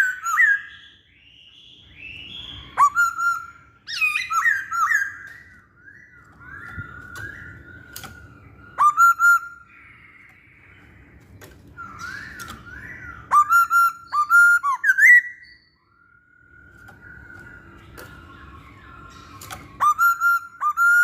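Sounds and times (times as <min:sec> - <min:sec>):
bird loud whistled notes: 0:00.0 - 0:10.7, 0:11.8 - 0:21.0.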